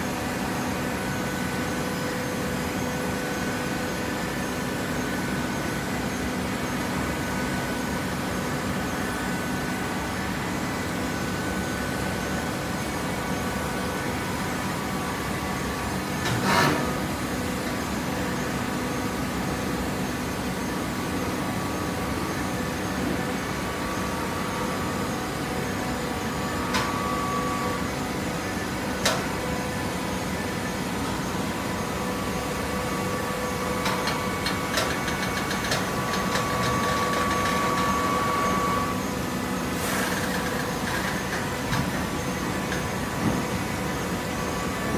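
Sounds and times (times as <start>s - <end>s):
baler motor and pump hum: 0.0s - 44.9s
machine whine: 0.0s - 44.9s.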